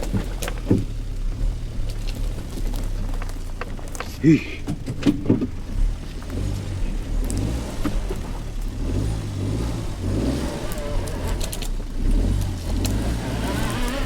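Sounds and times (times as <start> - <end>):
car engine at low revs: 0.0 - 14.0.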